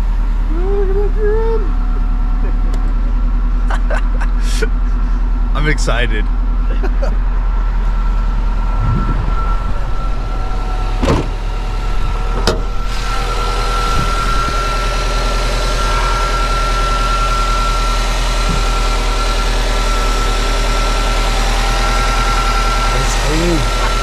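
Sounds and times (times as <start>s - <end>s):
car engine idling with whine: 0.0s - 24.0s.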